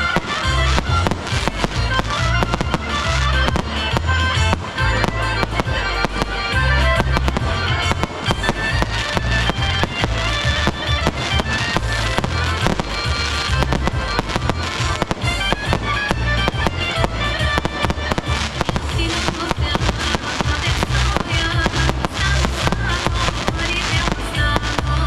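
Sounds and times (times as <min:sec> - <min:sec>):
fireworks banging and crackling: 0:00.0 - 0:25.0
loud music with pulsing bass: 0:00.0 - 0:25.0.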